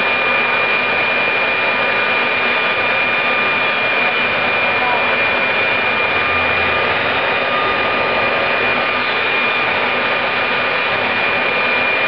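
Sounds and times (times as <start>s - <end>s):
high compressor whine: 0.0s - 12.0s
turbojet engine rushing air: 0.0s - 12.0s.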